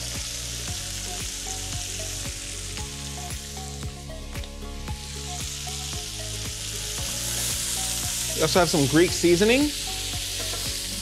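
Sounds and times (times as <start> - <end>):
soft background music: 0.0 - 11.0
vegetables sizzling in fat: 0.0 - 11.0.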